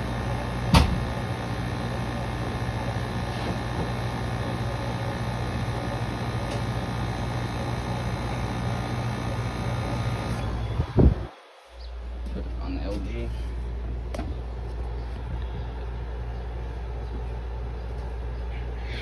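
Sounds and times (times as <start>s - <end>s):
air conditioner fan blowing: 0.0s - 19.0s
low electrical hum: 0.0s - 19.0s.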